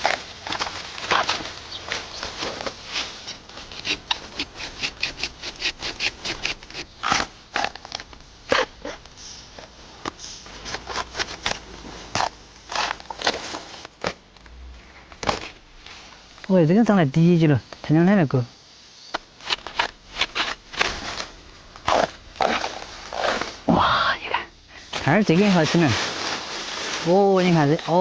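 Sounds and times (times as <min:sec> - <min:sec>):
crackling in dry bamboo litter: 0:00.0 - 0:28.0.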